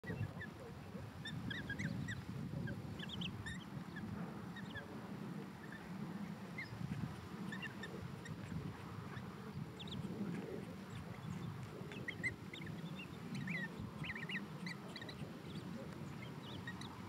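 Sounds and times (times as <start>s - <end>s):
chicks peeping: 0.0s - 17.0s
low background noise: 0.0s - 17.0s.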